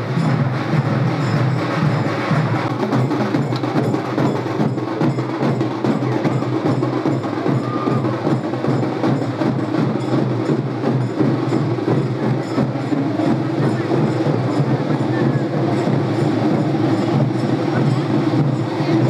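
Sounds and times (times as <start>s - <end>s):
percussion music with fast beat: 0.0s - 19.0s.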